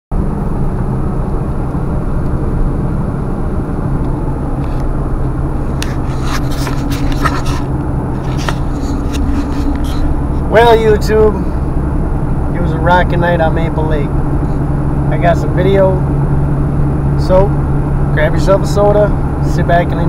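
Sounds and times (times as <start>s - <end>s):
engine and road noise: 0.1s - 20.0s.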